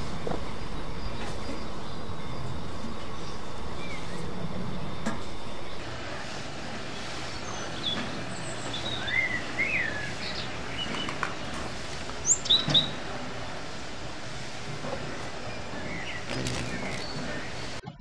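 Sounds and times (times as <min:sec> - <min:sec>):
outdoor background hiss: 0:00.0 - 0:17.8
small birds chirping: 0:00.0 - 0:17.8.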